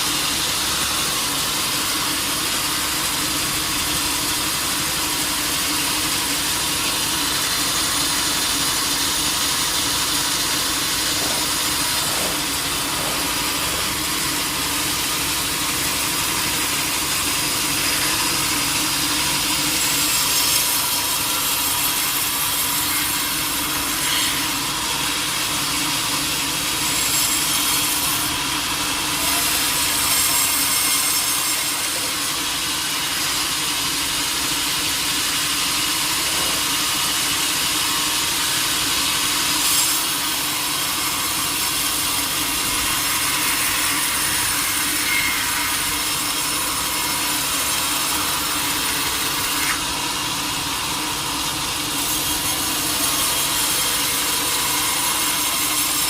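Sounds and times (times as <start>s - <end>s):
saw cutting through a log: 0.0s - 56.0s.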